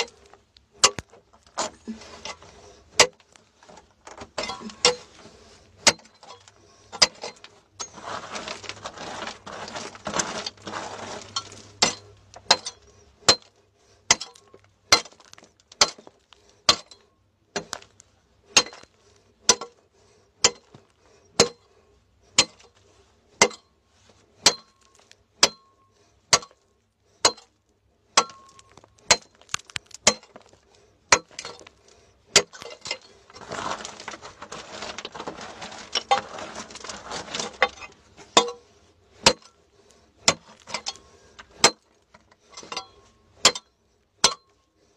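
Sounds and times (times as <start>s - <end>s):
digging bar striking hard soil: 0.0s - 3.2s, 4.1s - 19.8s, 20.4s - 21.7s, 22.3s - 22.8s, 23.4s - 23.7s, 24.4s - 26.6s, 27.2s - 30.5s, 31.1s - 39.6s, 40.2s - 41.9s, 42.5s - 44.5s
rough scraping: 0.0s - 43.6s.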